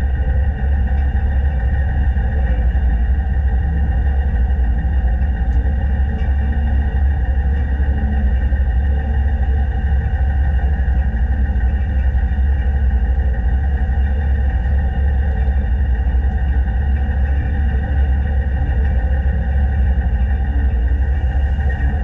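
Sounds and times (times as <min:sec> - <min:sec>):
constant tonal hum: 0:00.0 - 0:22.0.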